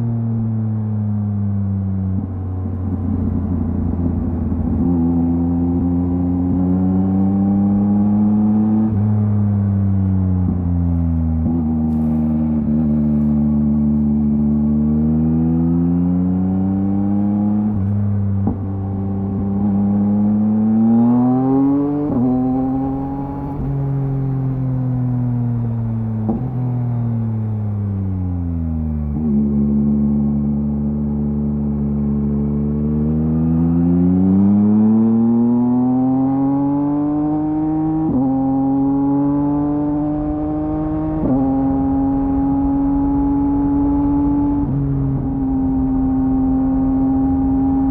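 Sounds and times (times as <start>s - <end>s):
motorcycle engine revving: 1.4s - 47.9s.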